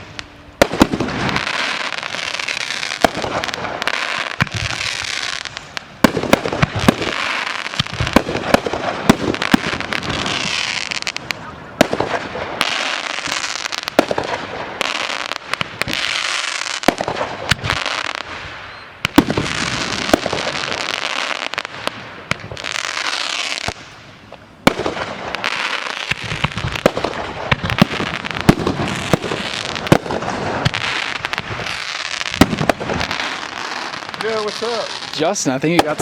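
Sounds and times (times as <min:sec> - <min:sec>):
firework bangs: 0:00.0 - 0:36.0
firework crackle: 0:00.0 - 0:36.0.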